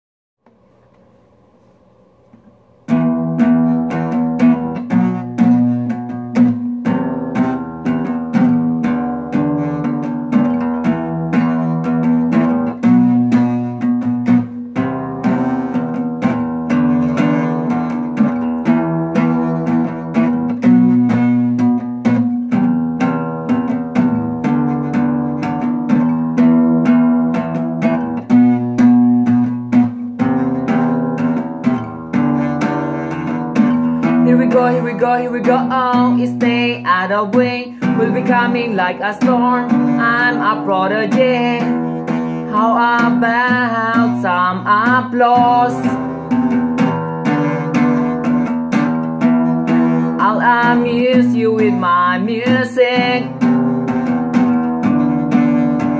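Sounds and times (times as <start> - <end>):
acoustic guitar riff: 0.4 - 55.9.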